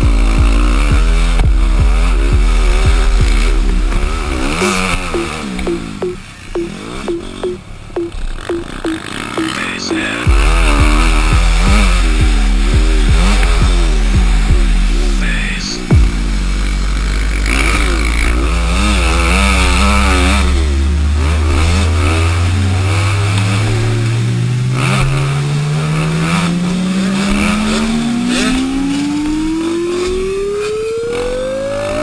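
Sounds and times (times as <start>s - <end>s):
low tone rising in pitch: 0.0s - 24.8s, 28.0s - 32.0s
dirt bike engine revving: 0.0s - 32.0s.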